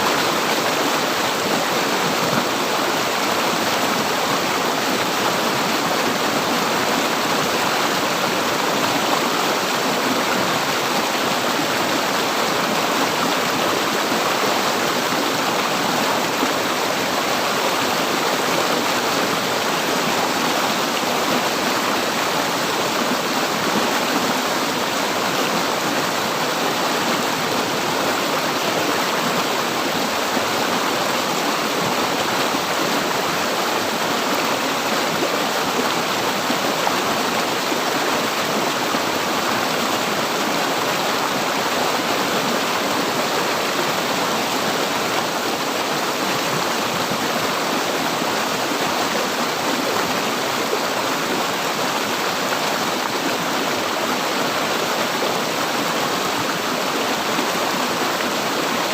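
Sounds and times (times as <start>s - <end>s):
river water rushing: 0.0s - 58.9s.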